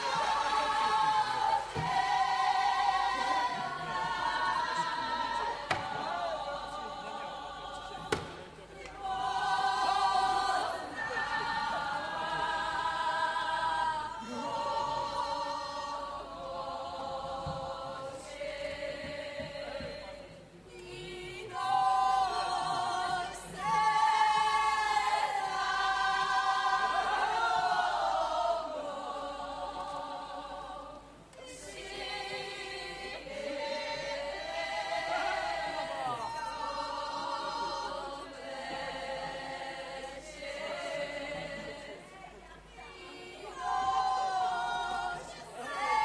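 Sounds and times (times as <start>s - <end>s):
group singing folk song: 0.0s - 46.0s.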